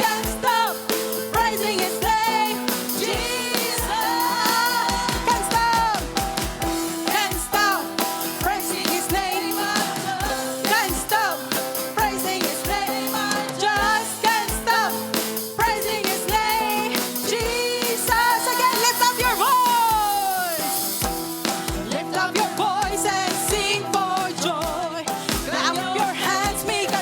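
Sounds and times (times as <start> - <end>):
keyboard chords: 0.0 - 27.0
steady drum beat: 0.0 - 27.0
voices singing: 0.0 - 27.0.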